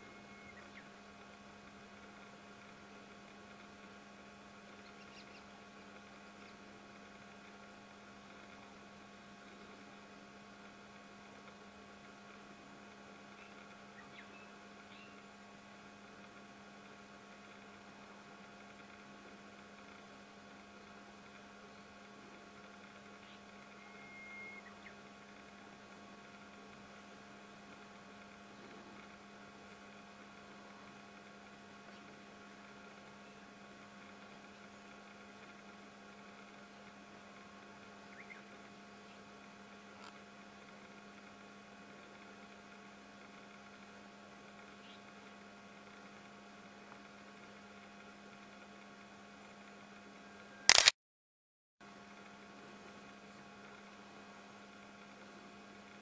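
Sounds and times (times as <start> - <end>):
faint electrical hum: 0.0 - 50.9, 51.8 - 56.0.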